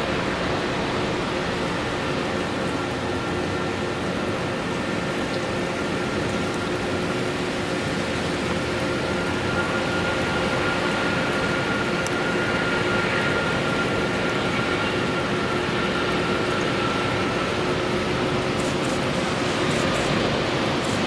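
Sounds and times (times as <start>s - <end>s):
distant jet engines whining: 0.0s - 21.0s.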